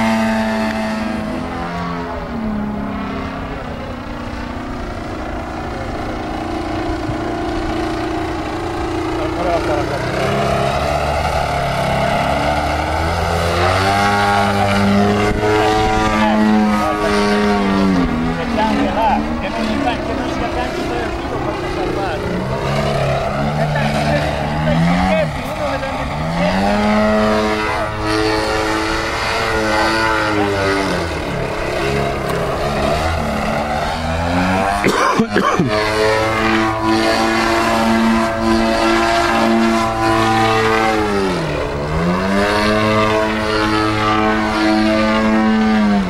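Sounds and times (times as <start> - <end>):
model plane engine buzzing: 0.0 - 46.0.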